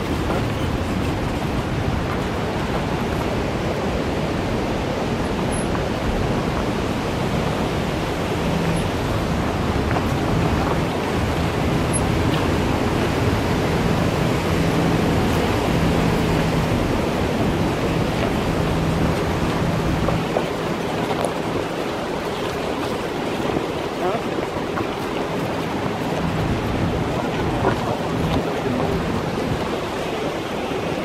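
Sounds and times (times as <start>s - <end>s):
tyre and wind noise on gravel: 0.0s - 31.0s.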